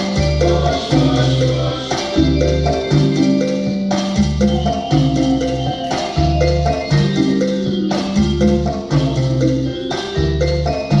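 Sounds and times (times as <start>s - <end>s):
cha-cha-cha dance music: 0.0s - 11.0s.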